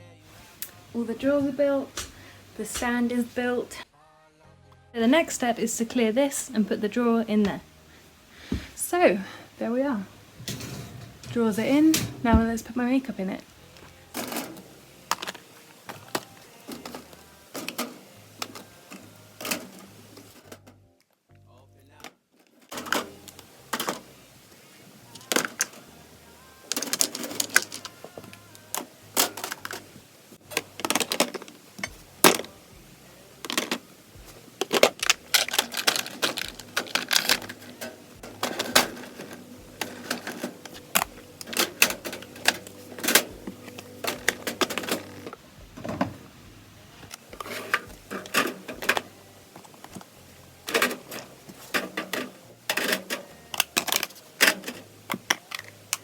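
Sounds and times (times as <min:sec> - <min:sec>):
plastic containers clattering: 0:00.4 - 0:03.8, 0:05.2 - 0:20.8, 0:22.5 - 0:26.0, 0:26.6 - 0:32.7, 0:33.4 - 0:56.0.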